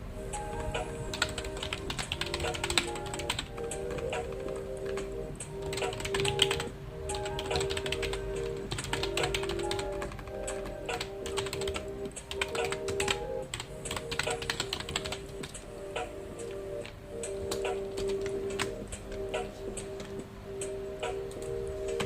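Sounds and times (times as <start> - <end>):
soft background music: 0.0 - 22.0
computer keyboard typing: 0.4 - 22.0.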